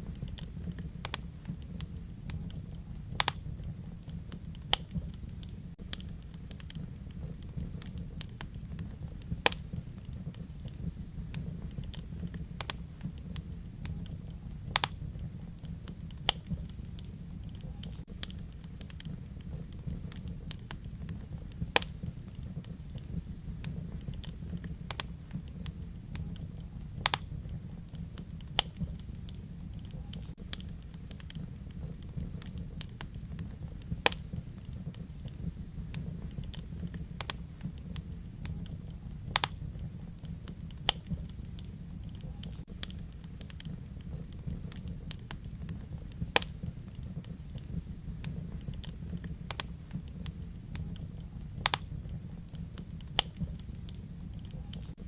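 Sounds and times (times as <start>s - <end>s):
burning logs popping: 0.0s - 55.0s
wood fire crackling: 0.0s - 55.0s.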